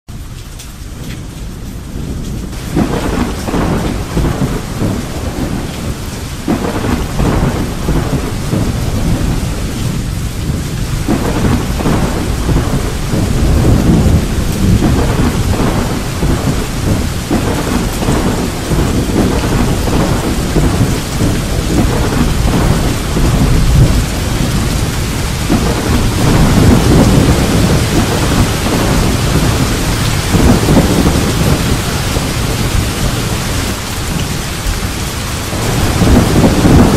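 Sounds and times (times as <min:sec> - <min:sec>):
rain hissing: 0:00.1 - 0:36.9
thunder rumbling: 0:00.9 - 0:36.9.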